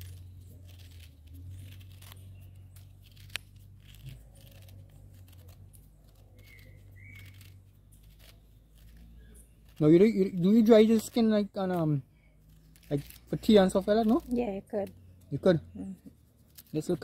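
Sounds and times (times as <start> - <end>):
knife scraping and tearing peel: 0.0 - 15.2, 15.8 - 17.0.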